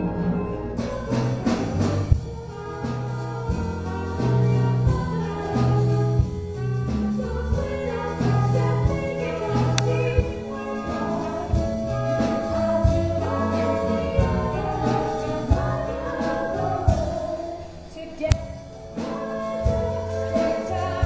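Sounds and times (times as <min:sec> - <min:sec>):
show music with bass line: 0:00.0 - 0:21.0.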